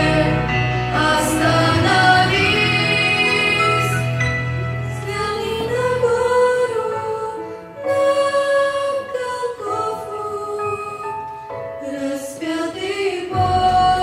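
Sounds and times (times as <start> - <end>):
slow gentle religious music: 0.0 - 14.0.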